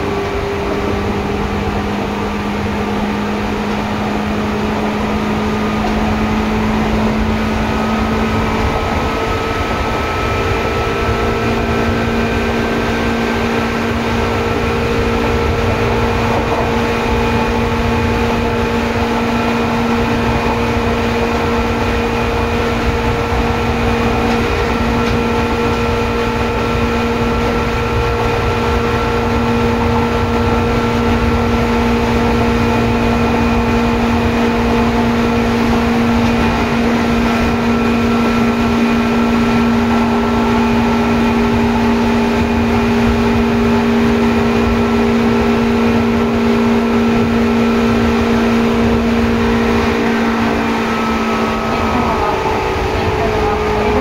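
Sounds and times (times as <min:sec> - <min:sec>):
electric train motor whine: 0:00.0 - 0:54.0
wheels rumbling on rails: 0:00.0 - 0:54.0.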